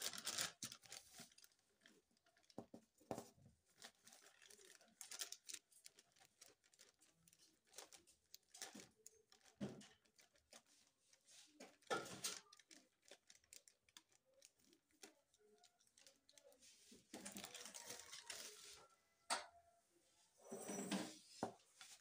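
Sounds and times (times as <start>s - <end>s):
paper bag crinkling and rustling: 0.0s - 18.8s.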